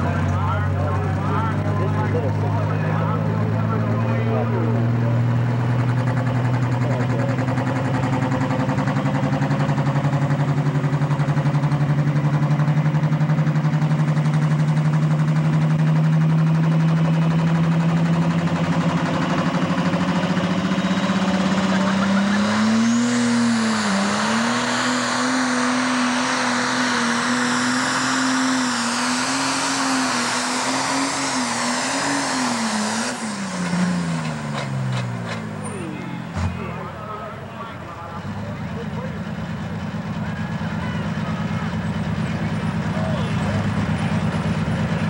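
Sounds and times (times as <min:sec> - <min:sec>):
diesel engine idling and revving: 0:00.0 - 0:45.0
turbocharger whine: 0:00.0 - 0:45.0.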